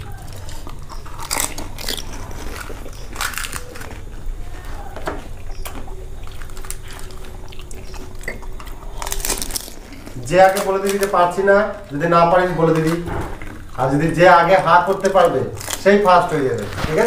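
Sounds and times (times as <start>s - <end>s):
chewing: 0.0s - 17.0s
crisp shells cracking and crunching: 0.0s - 17.0s.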